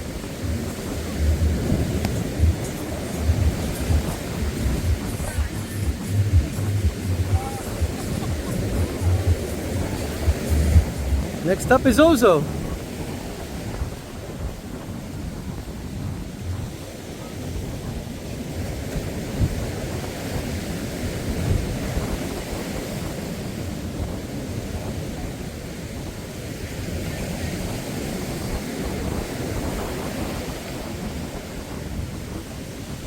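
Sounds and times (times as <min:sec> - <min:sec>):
wind buffeting microphone: 0:00.0 - 0:11.5, 0:12.4 - 0:33.0
surf breaking on beach: 0:00.0 - 0:33.0.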